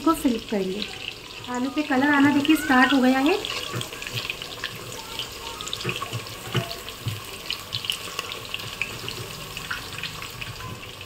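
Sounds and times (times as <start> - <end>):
potatoes sizzling in hot oil: 0.0 - 11.0.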